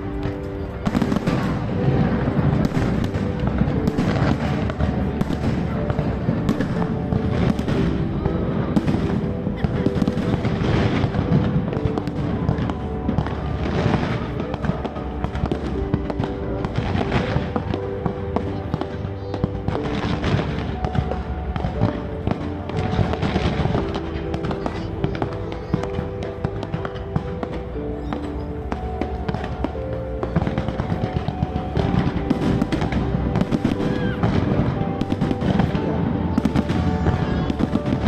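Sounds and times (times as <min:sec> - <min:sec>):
fireworks bursting and crackling: 0:00.0 - 0:38.0
music with sustained notes: 0:00.0 - 0:38.0.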